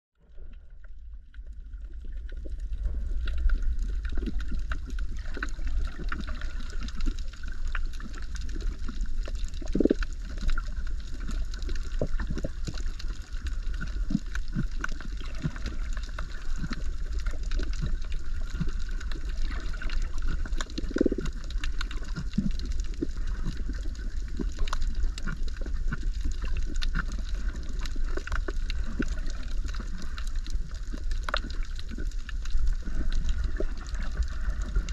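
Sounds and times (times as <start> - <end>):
fine underwater crackling: 0.2 - 34.9
underwater low rumble: 0.2 - 34.9
water gurgles: 0.2 - 34.9.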